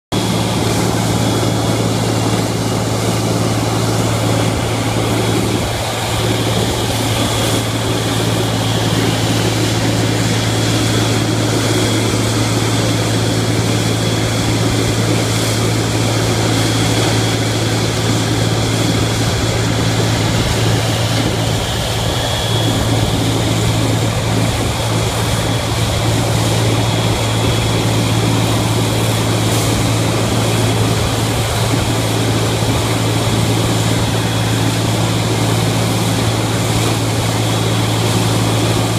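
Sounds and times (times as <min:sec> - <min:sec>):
diesel grinder droning: 0:00.1 - 0:38.9.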